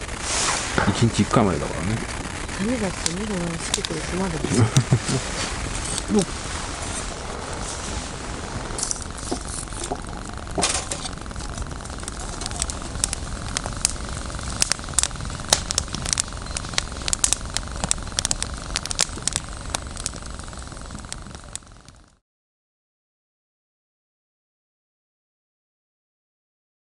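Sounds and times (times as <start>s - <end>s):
low steady rumble: 0.0s - 22.0s
campfire crackling and popping: 0.0s - 22.2s.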